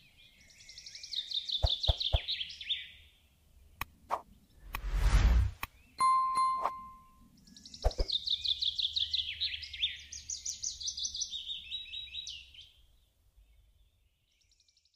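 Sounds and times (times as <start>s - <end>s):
songbird chirping and trilling: 0.0s - 4.7s, 5.6s - 14.9s.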